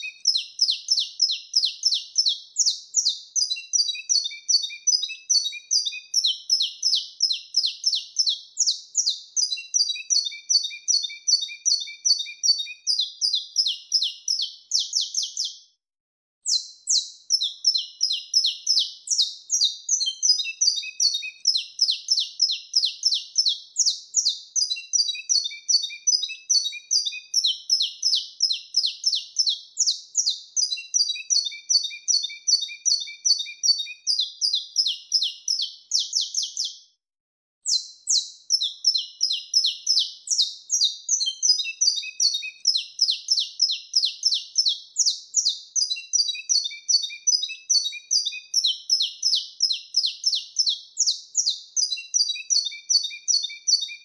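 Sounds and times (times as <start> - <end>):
finch singing high chirps: 0.0 - 15.7, 16.4 - 36.9, 37.6 - 54.0.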